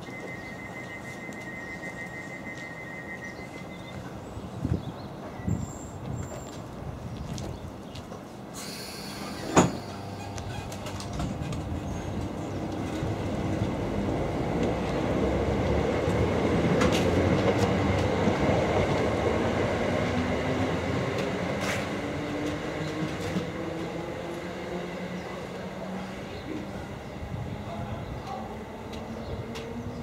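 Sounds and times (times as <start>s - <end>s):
electric train whine: 0.0s - 4.2s, 8.6s - 30.0s
train rolling on rails: 0.0s - 30.0s.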